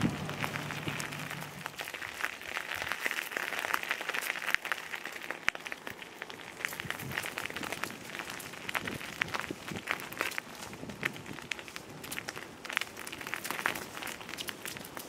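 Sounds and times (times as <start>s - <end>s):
footsteps on gravel: 0.0s - 15.0s.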